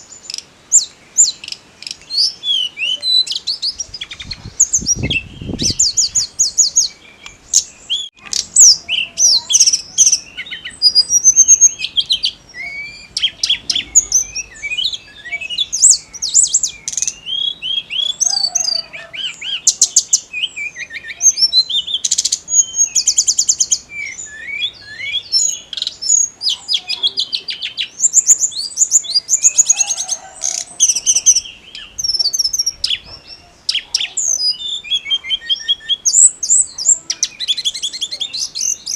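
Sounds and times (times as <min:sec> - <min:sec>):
songbird singing rapid trills: 0:00.0 - 0:38.9.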